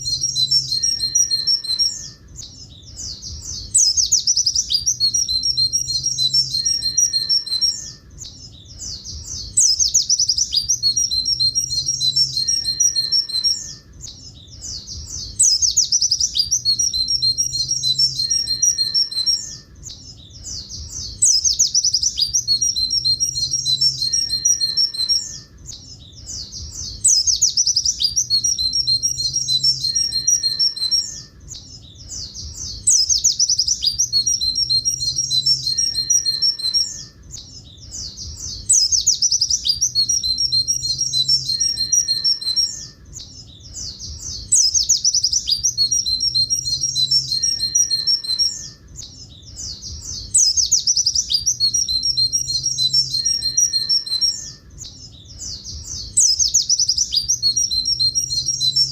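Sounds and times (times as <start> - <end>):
bird twittering trills: 0.0 - 58.9
faint low hum: 0.0 - 58.9.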